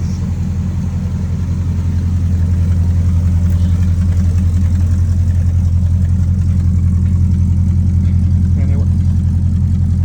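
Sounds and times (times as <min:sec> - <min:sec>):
pickup truck engine idling: 0:00.0 - 0:10.0.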